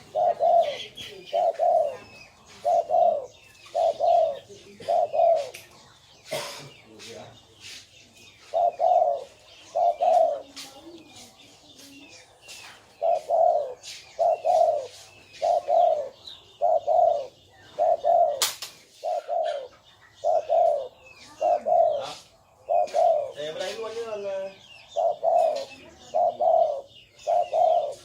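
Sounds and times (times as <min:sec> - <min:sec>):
dove cooing: 0:00.0 - 0:06.8, 0:07.6 - 0:28.0.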